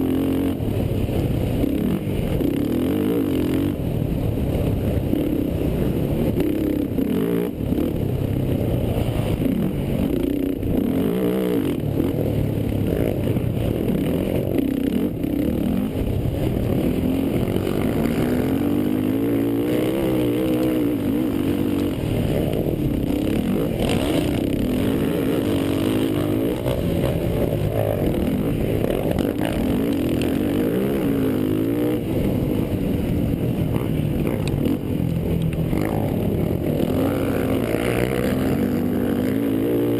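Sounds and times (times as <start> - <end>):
quad engines revving: 5.0 - 32.8, 33.5 - 39.9.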